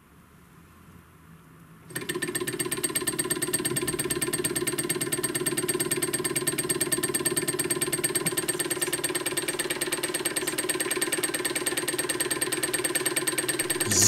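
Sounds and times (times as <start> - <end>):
small engine rapid clatter: 1.9 - 14.0.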